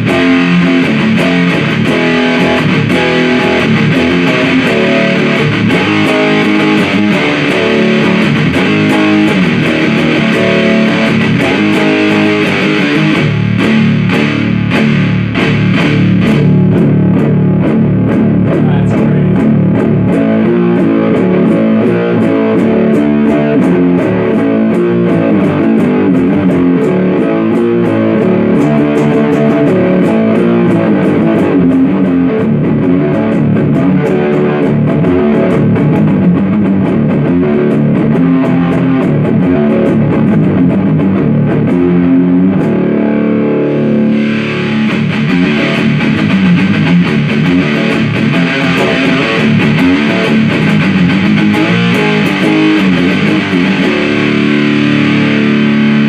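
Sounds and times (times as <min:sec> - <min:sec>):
fuzz electric guitar riffs: 0:00.0 - 0:56.0.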